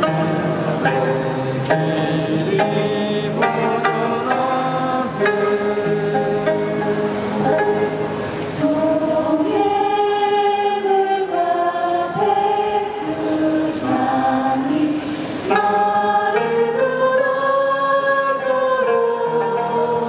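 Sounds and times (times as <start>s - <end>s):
zithers playing: 0.0s - 9.6s, 13.0s - 20.0s
women singing together: 1.4s - 6.8s, 8.6s - 20.0s.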